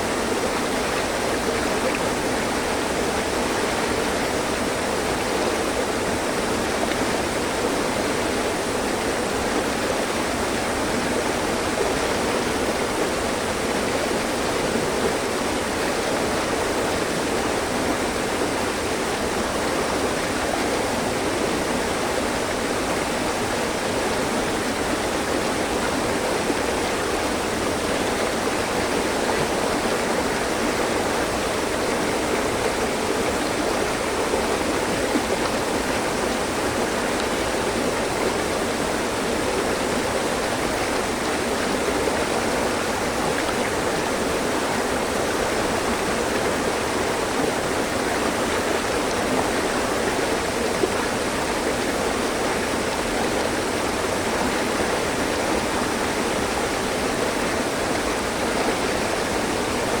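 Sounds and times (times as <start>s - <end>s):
stream flowing over rocks: 0.0s - 60.0s.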